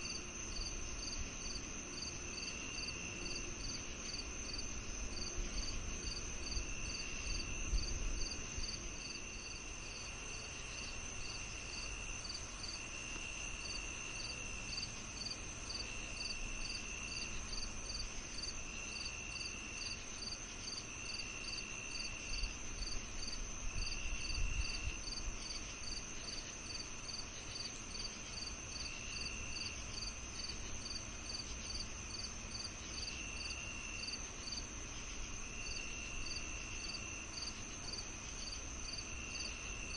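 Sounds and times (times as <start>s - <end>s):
cricket chirping: 0.0s - 39.9s
insects trilling: 0.0s - 39.9s
low buzzing insect call: 0.0s - 39.9s.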